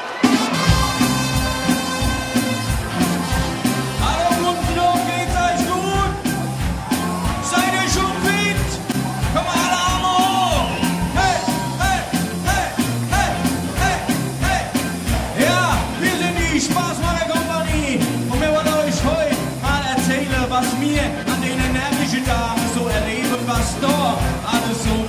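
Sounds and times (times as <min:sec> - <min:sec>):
fast drum beat: 0:00.0 - 0:25.0
horn section: 0:00.0 - 0:25.0
lead singer's voice: 0:00.0 - 0:25.0
live band playing: 0:00.0 - 0:25.0.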